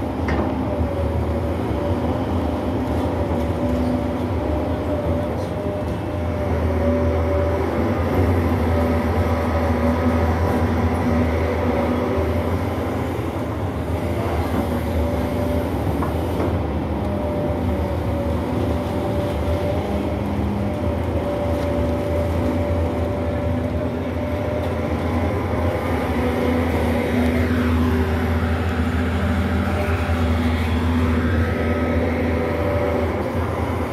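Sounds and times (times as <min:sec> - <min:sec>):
low diesel drone: 0:00.0 - 0:33.9.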